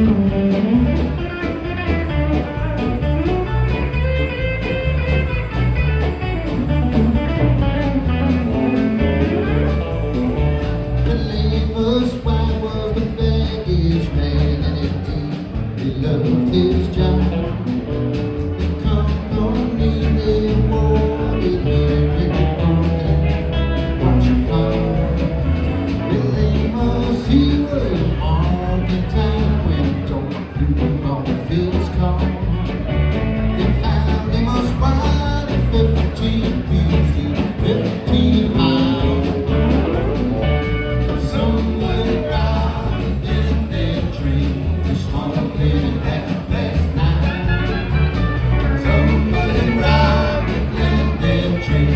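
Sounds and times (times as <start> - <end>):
country rock band music: 0.0 - 51.9.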